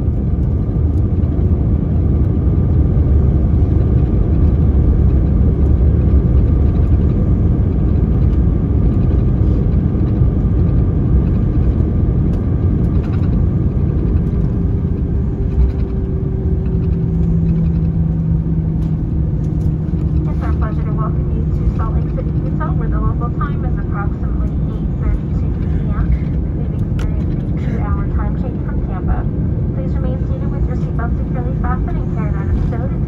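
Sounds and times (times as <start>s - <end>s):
engine hum: 0.0s - 33.0s
wheels and engines rumbling: 0.0s - 33.0s.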